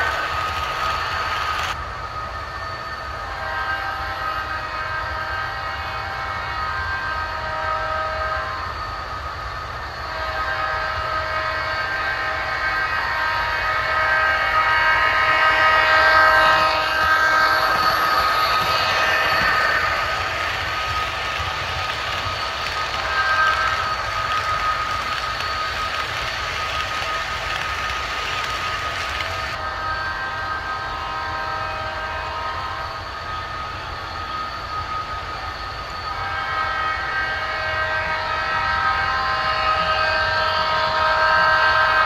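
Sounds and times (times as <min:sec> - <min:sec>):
model train rumble: 0:00.0 - 0:42.0.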